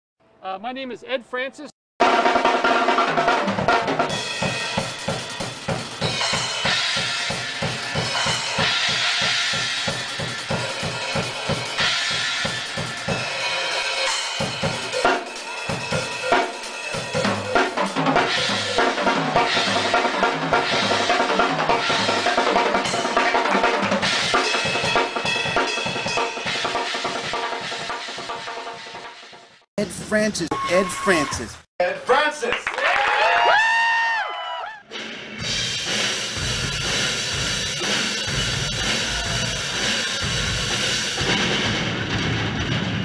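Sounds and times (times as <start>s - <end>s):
drum kit playing fast beat: 2.0s - 31.6s, 35.0s - 43.0s.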